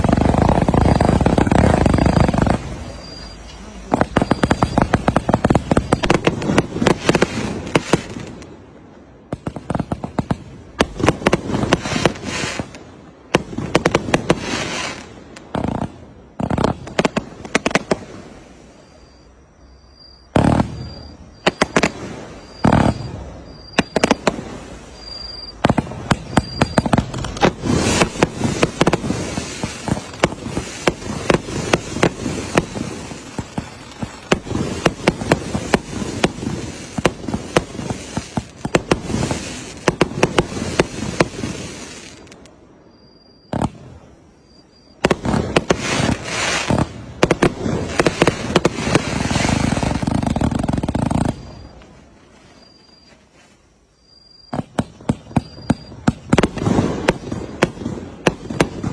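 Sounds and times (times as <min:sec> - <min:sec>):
fireworks bangs and crackles: 0:00.0 - 0:58.9.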